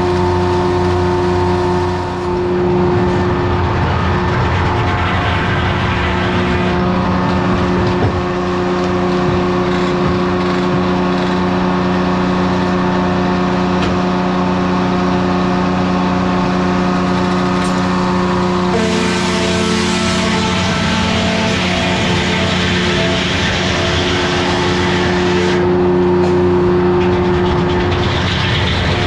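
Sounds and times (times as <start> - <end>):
diesel engine running steadily: 0.0 - 29.0.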